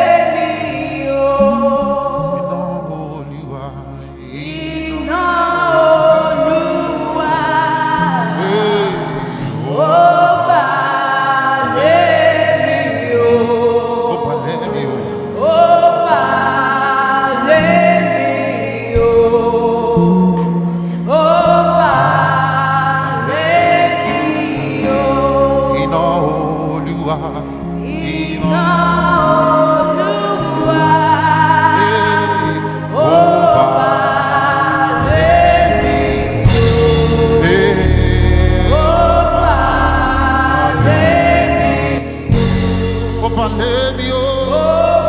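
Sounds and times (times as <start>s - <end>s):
gospel singing: 0.0s - 45.0s
sustained bass chords: 0.0s - 45.0s.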